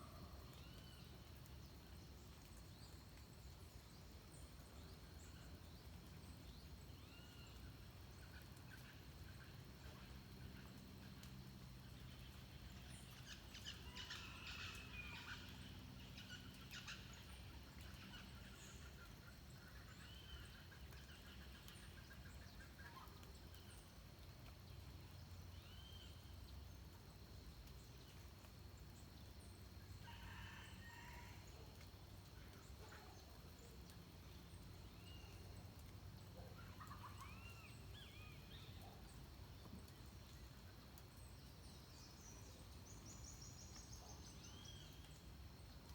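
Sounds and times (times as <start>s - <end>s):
quiet background noise: 0.0s - 45.9s.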